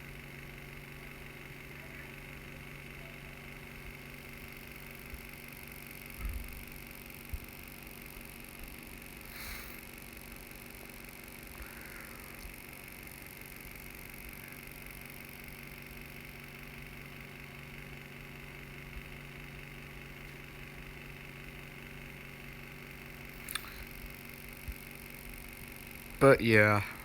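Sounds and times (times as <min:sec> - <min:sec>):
faint hum and hiss: 0:00.0 - 0:27.0.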